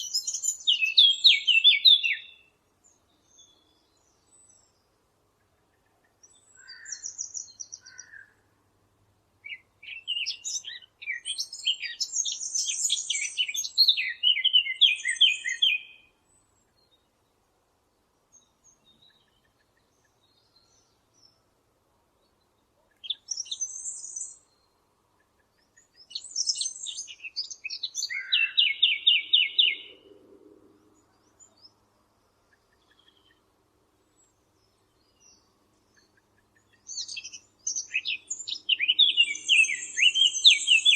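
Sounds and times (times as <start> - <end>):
warbler singing: 0.0 - 5.0, 5.6 - 8.4, 9.4 - 17.4, 18.2 - 21.4, 22.2 - 30.2, 30.8 - 40.9.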